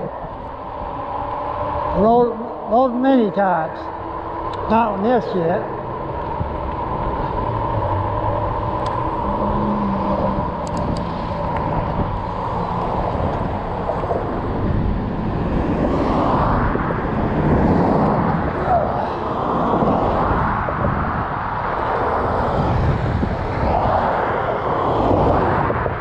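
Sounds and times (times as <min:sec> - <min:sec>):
rush of tyres and wind: 0:00.0 - 0:26.0.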